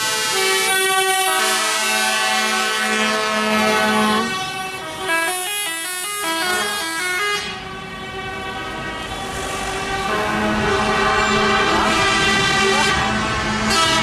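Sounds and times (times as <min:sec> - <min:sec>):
musical horn playing notes: 0:00.0 - 0:07.6, 0:08.2 - 0:14.0
truck air horn blast: 0:00.0 - 0:14.0.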